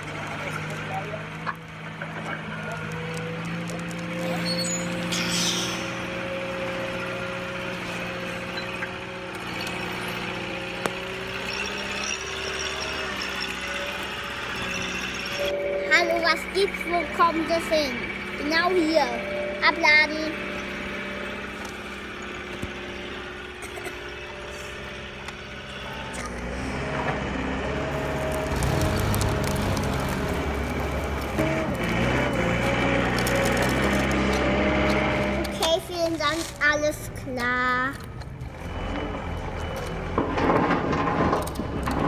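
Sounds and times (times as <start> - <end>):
engine idling hum: 0.0 - 42.0.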